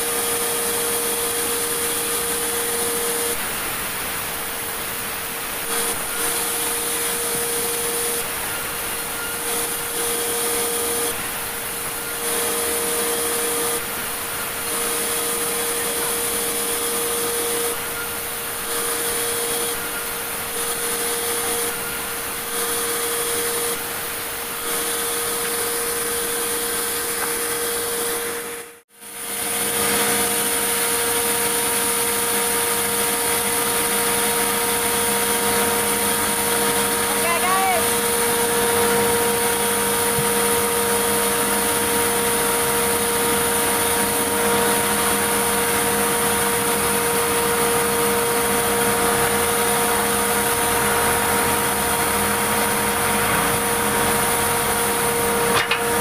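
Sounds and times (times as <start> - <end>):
band saw cutting logs: 0.0 - 56.0.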